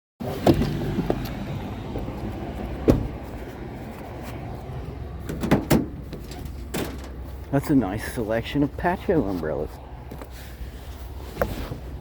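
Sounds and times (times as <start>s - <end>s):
vehicle engine humming: 0.2s - 12.0s.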